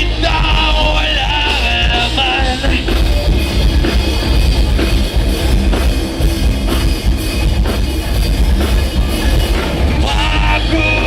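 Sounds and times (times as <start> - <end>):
bass guitar: 0.0 - 11.0
distorted electric guitar: 0.0 - 11.0
drum kit pounding: 0.0 - 11.0.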